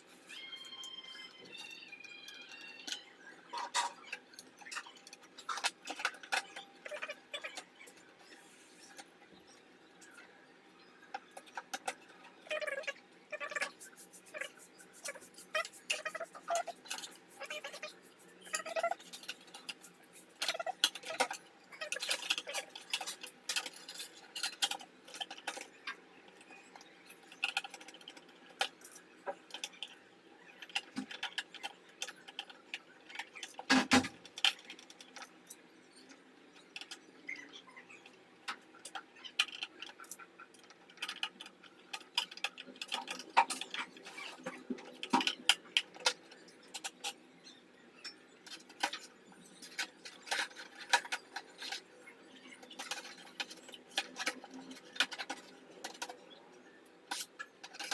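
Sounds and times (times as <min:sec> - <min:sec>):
small hard parts clicking: 0:00.2 - 0:57.9.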